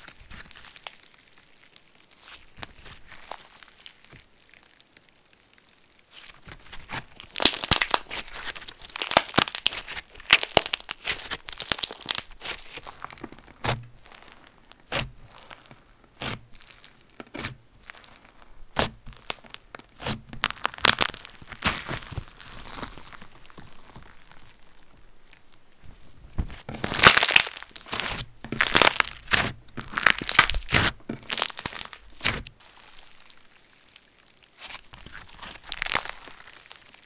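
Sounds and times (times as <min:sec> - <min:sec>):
slime crackling and popping: 0:00.0 - 0:37.0.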